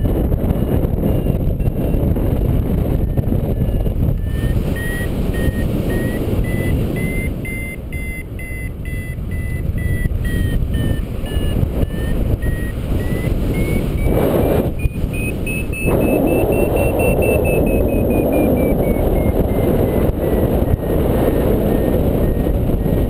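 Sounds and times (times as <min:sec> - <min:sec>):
wind rush on microphone: 0:00.0 - 0:23.0
variometer beeping: 0:00.9 - 0:23.0.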